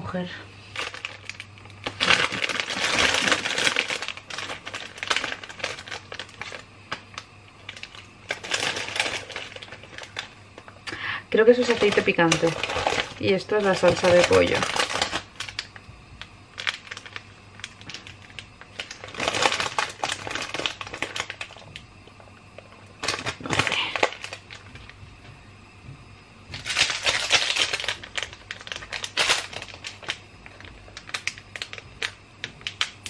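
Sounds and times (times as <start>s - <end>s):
plastic sachets crinkling and tearing: 0.7s - 21.8s, 22.6s - 25.0s, 26.5s - 33.0s.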